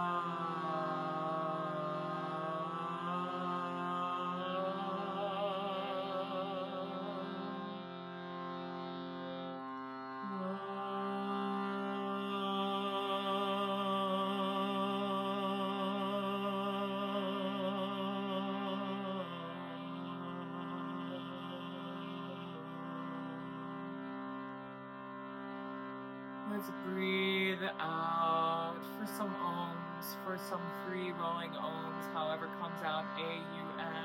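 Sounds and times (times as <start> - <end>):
meditative drone music: 0.0 - 34.0.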